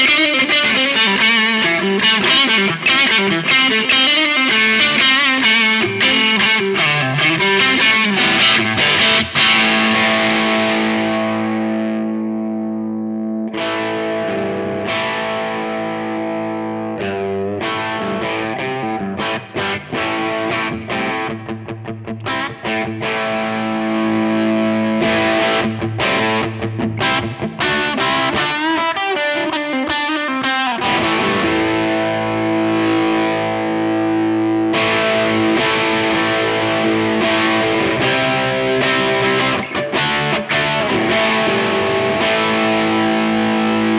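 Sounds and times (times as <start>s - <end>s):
overdriven electric guitar: 0.0s - 43.9s.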